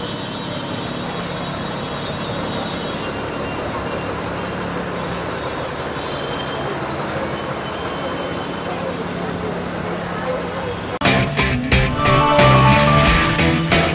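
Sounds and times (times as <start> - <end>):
lorry diesel engine running: 0.0 - 13.9
street noise: 0.0 - 13.9.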